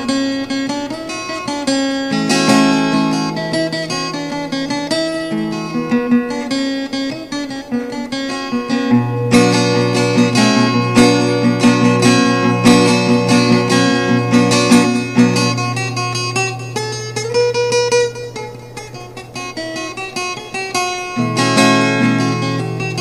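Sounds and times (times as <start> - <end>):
plucked string melody: 0.0 - 23.0.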